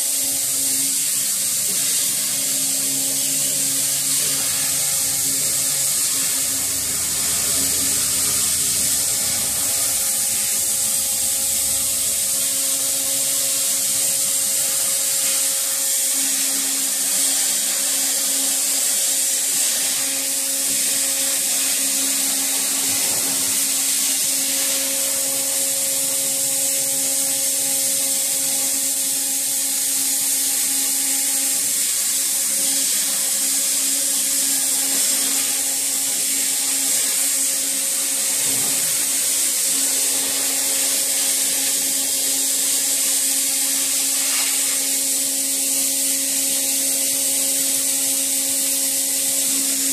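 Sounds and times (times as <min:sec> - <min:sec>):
cutting torch hissing: 0:00.0 - 0:49.9
machine whine: 0:00.0 - 0:49.9.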